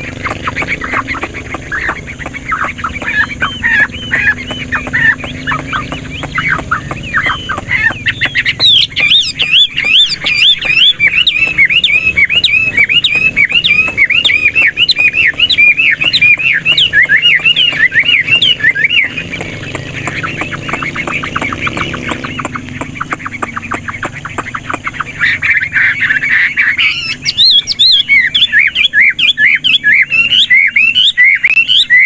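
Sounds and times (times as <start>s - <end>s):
bird singing: 0.0s - 32.0s.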